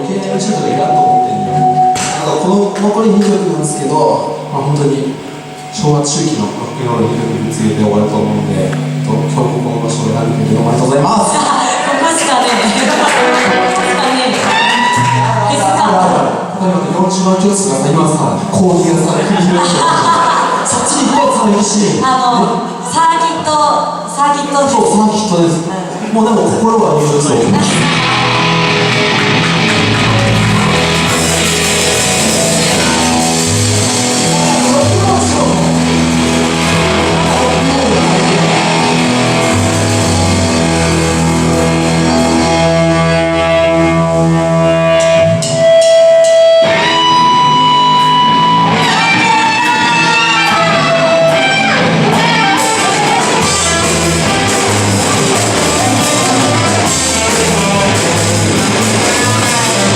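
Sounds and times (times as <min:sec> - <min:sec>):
lead guitar bending notes: 0:00.0 - 0:59.9
live rock band playing: 0:00.0 - 0:59.9.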